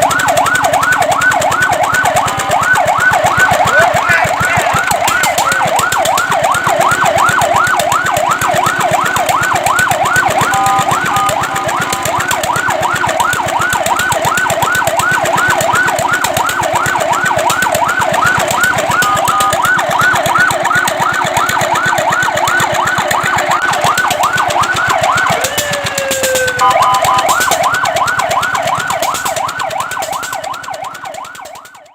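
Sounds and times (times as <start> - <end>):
fire truck siren yelp: 0.0 - 31.9
steady siren tones: 0.0 - 31.9.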